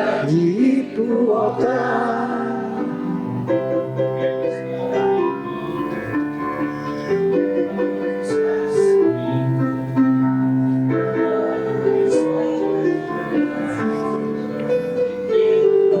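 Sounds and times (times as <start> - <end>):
keyboard piano melody over chords: 0.0 - 16.0.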